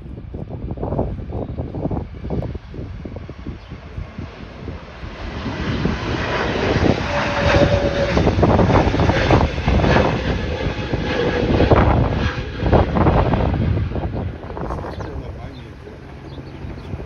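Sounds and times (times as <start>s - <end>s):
faint steady engine whine: 0.0s - 17.0s
jet engines at takeoff: 0.0s - 17.0s.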